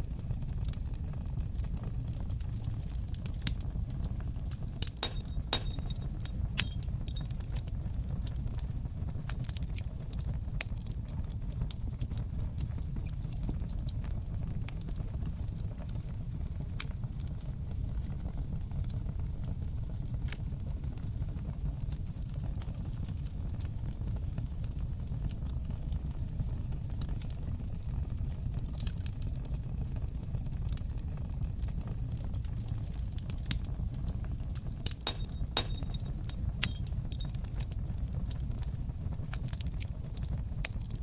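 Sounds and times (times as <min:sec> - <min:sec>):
fire burning with crackles: 0:00.0 - 0:41.0.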